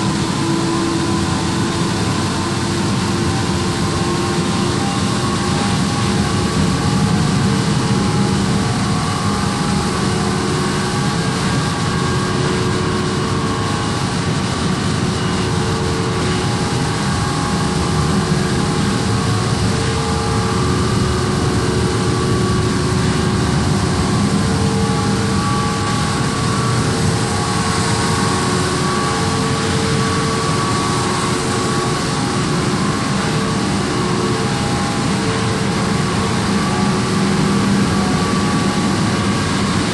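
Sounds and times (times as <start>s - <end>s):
ship machinery droning: 0.0s - 39.9s.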